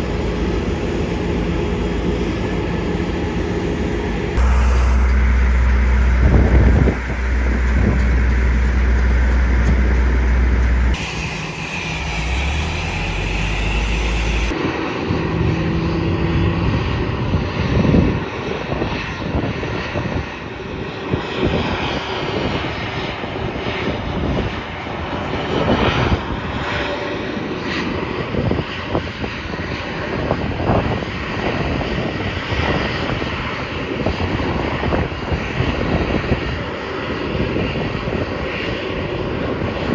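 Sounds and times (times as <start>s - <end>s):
airliner engine roar: 0.0s - 39.9s.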